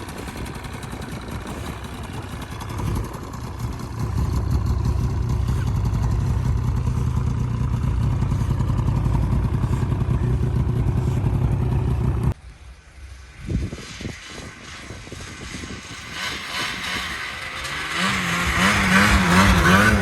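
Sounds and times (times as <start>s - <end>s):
snowmobile engine running: 0.0s - 12.4s, 13.8s - 20.0s.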